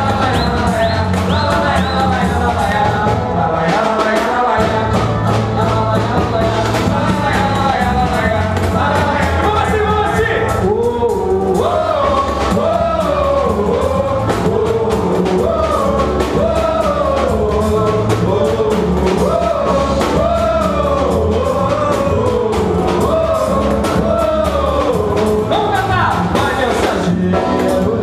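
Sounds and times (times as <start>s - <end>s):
bass line: 0.0s - 28.0s
percussion beat: 0.0s - 28.0s
person singing: 0.0s - 28.0s.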